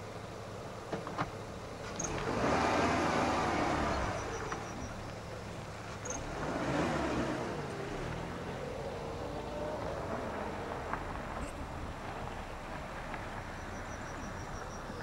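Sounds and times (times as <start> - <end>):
motor vehicle passing: 1.8 - 15.0.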